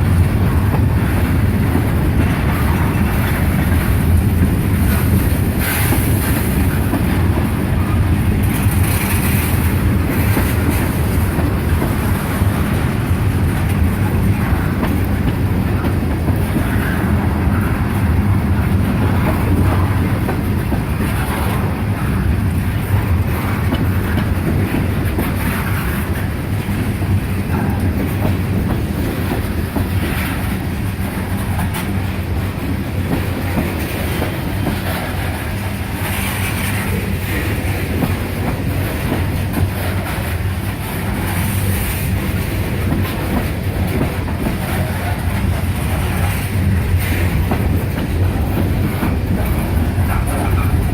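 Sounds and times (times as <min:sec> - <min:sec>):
freight train rumbling past: 0:00.0 - 0:50.9
wheels clacking over rail joints: 0:00.0 - 0:50.9.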